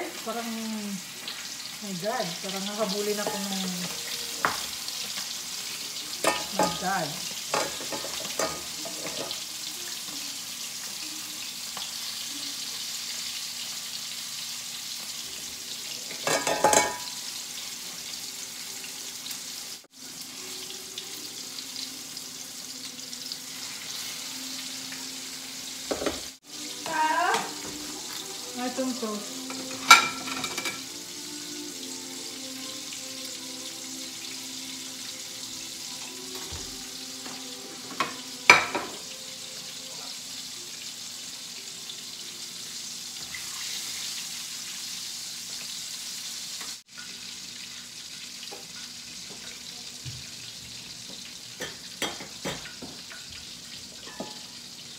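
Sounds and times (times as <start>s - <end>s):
chicken sizzling in hot oil: 0.0s - 54.9s.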